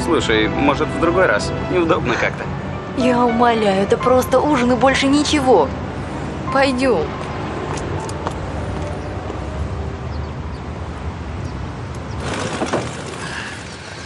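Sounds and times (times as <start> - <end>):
passing cars rumbling: 0.0 - 14.0.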